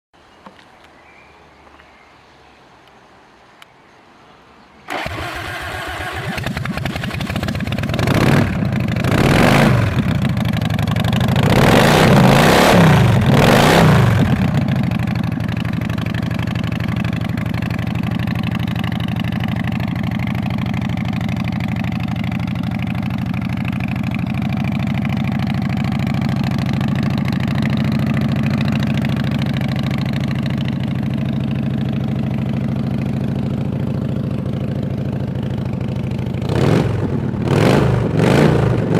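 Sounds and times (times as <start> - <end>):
motorcycle engine revving and idling: 4.9 - 38.9.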